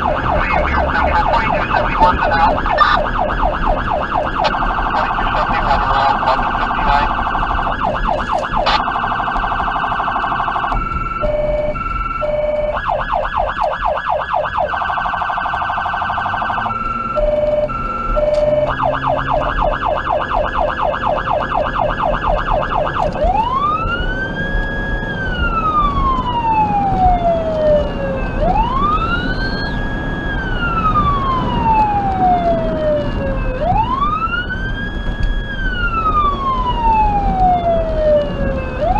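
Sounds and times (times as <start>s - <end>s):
electronic siren yelp and wail: 0.0s - 38.9s.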